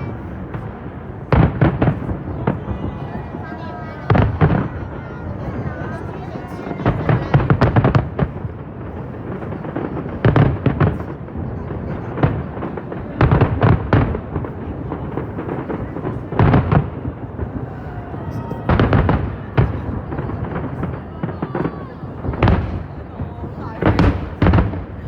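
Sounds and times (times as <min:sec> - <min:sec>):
fireworks bursting with loud bangs: 0:00.0 - 0:25.0.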